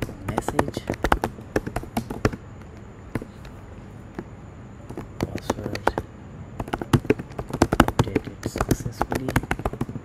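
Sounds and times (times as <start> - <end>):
keyboard typing: 0.0 - 10.0.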